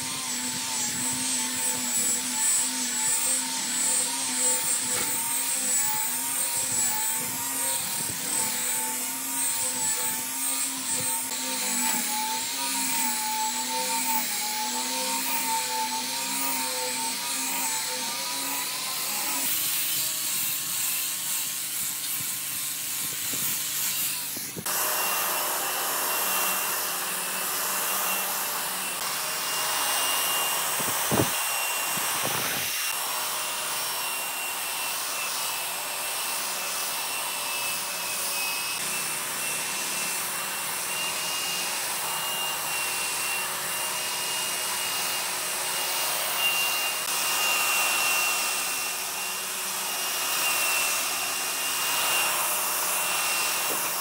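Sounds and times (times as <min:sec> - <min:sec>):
angle grinder sanding wood: 0:00.0 - 0:54.0
belt sander whining: 0:00.0 - 0:54.0.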